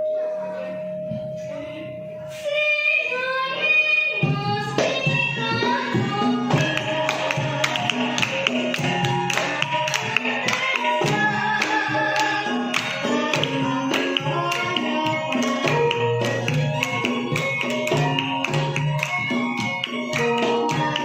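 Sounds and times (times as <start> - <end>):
metallophone notes: 0.0 - 2.5, 5.0 - 21.0.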